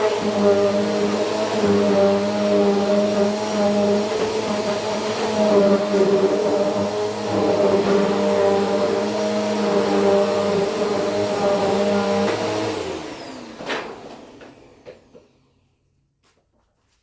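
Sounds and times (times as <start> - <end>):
vacuum cleaner running: 0.0 - 15.8.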